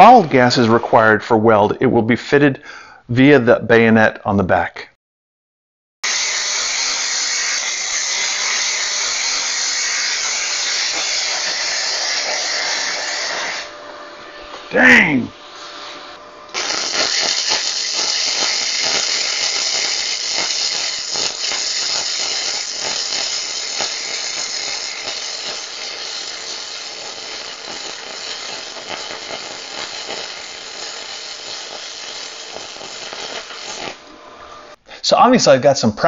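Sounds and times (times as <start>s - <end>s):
welding arc crackling hiss: 0.0s - 1.1s, 6.0s - 13.8s, 14.5s - 34.8s.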